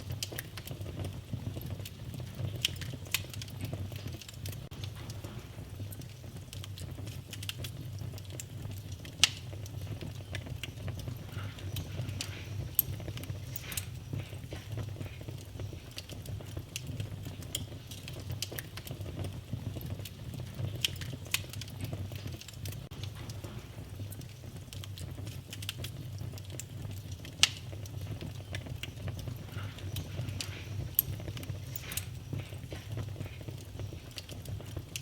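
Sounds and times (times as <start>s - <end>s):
fire crackling with low rumble: 0.0s - 35.0s
sharp fire pops: 0.0s - 35.0s.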